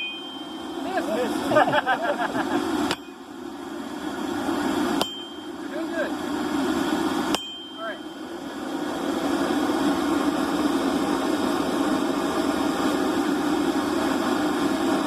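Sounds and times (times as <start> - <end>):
forge fire rushing: 0.8 - 15.0.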